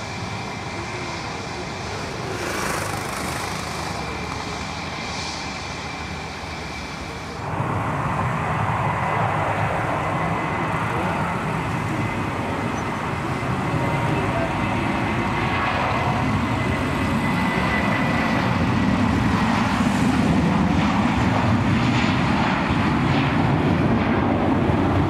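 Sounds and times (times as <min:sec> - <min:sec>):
jet engines rushing and whining: 0:00.0 - 0:25.0.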